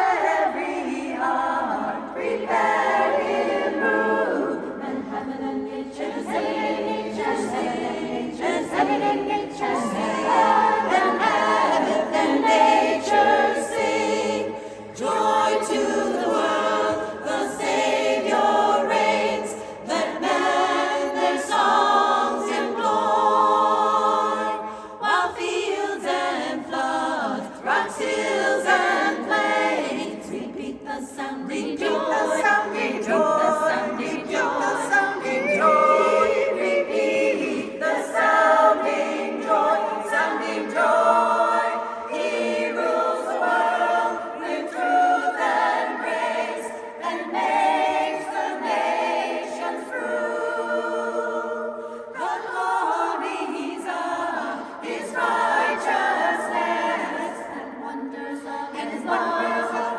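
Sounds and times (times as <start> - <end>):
chorus singing a cappella: 0.0 - 59.9.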